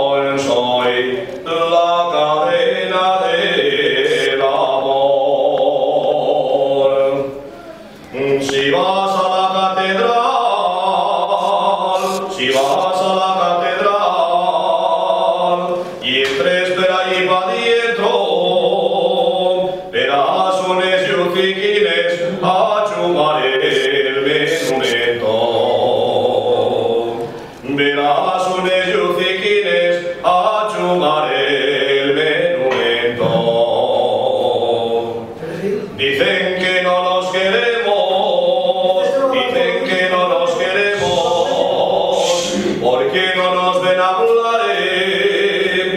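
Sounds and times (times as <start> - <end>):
man singing unaccompanied: 0.0 - 7.4, 8.1 - 45.9.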